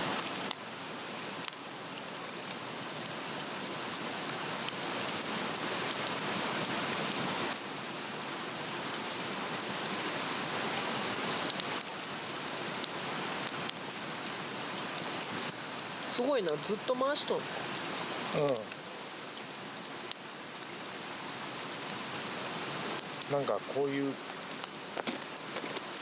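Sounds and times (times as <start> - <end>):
faint fire crackles: 0.0 - 26.0.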